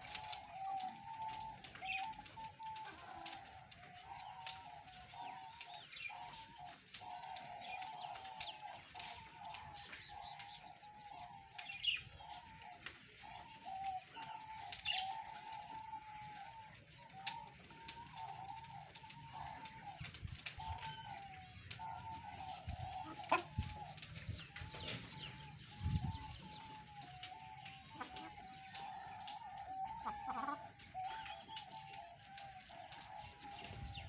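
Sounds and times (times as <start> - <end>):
hens calling: 0.0 - 34.0.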